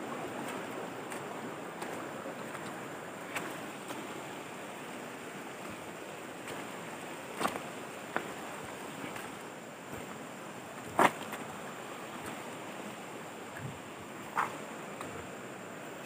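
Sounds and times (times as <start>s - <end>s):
river rushing over stones: 0.0s - 16.0s.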